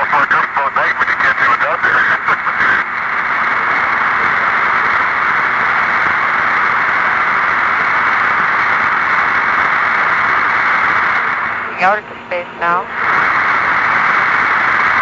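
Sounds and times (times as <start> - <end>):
radio channel hiss: 0.0 - 15.0.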